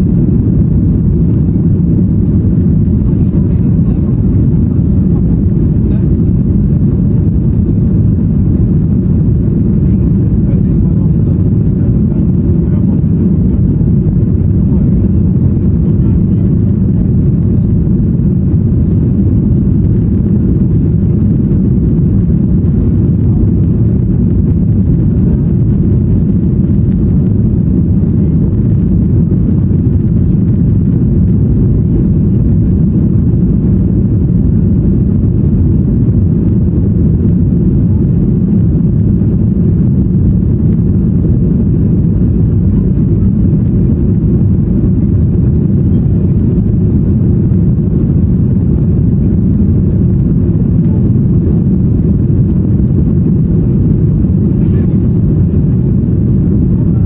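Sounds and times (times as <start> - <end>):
jet engine cabin roar: 0.0 - 57.0.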